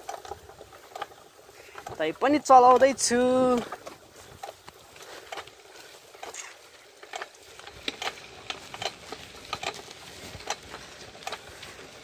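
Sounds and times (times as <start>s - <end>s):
bicycle rattling on concrete: 0.0s - 12.0s.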